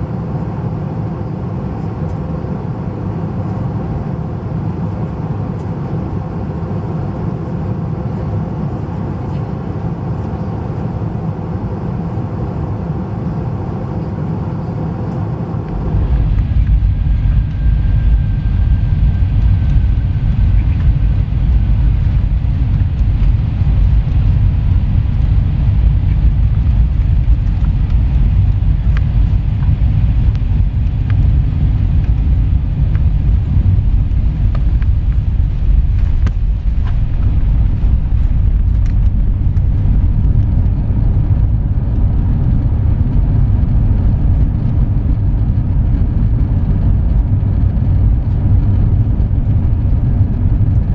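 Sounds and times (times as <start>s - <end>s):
airliner engines rumbling: 0.0s - 50.9s.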